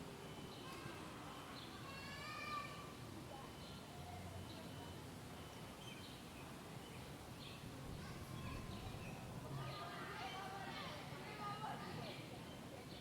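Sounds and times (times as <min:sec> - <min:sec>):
low steady city rumble: 0:00.0 - 0:13.0.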